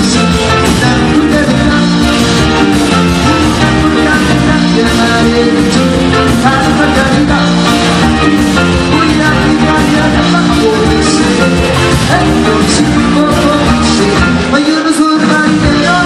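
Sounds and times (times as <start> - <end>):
grand piano: 0.0 - 16.0
live rock band playing: 0.0 - 16.0.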